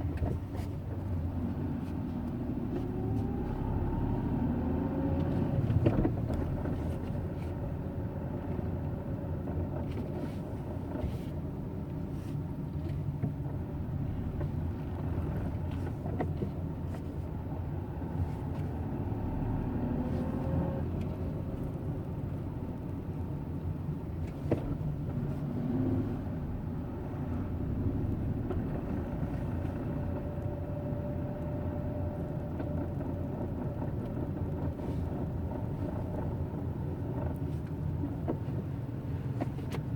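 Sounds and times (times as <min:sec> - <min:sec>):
car engine low rumble: 0:00.0 - 0:39.9.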